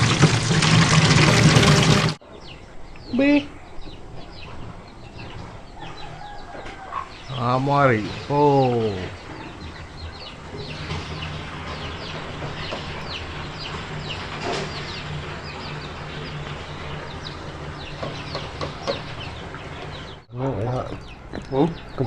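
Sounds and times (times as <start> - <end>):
chicks cheeping: 1.6 - 22.0.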